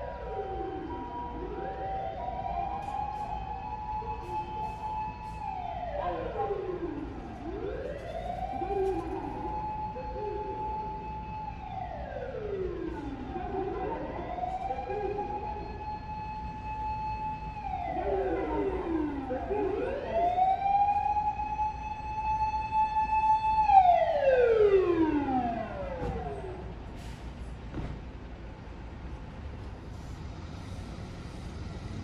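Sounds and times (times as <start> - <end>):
fire engine siren wailing: 0.0 - 27.6.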